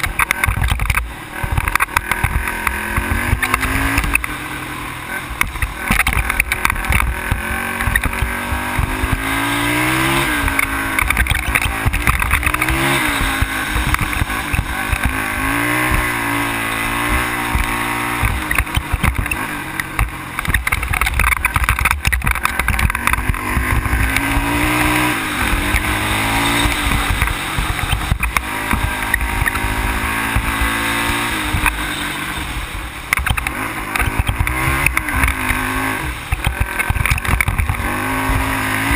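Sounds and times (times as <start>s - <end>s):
knocks and rattles on gravel: 0.0s - 4.4s, 5.1s - 32.3s, 33.0s - 38.9s
atv engine revving: 0.0s - 38.9s.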